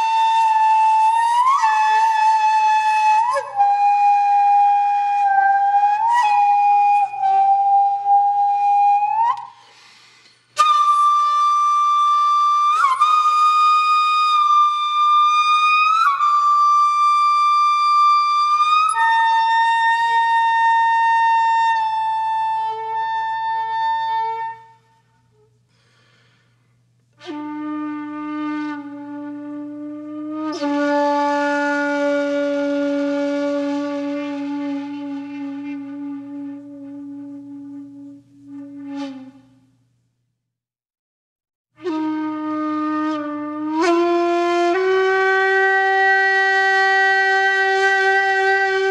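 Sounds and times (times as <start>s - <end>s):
flute-like wind instrument: 0.0s - 25.6s, 27.1s - 40.0s, 41.8s - 48.9s.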